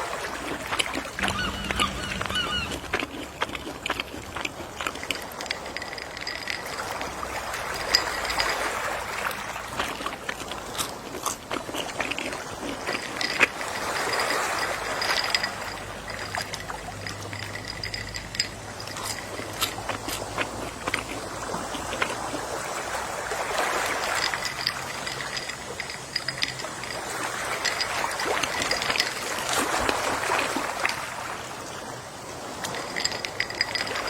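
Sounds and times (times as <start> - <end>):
gentle sea waves washing in: 0.0 - 34.0.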